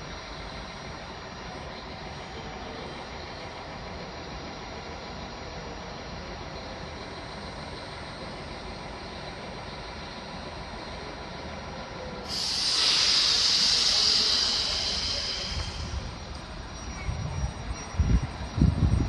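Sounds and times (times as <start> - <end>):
train equipment rumble and hiss: 0.0 - 19.0.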